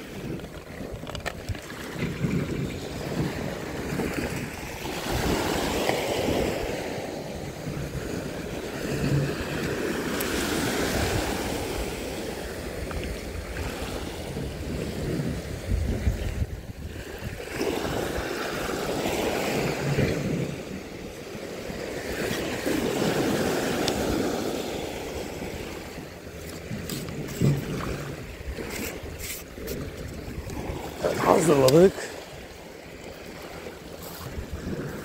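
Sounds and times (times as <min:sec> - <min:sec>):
waves breaking on pebble beach: 0:00.0 - 0:35.0.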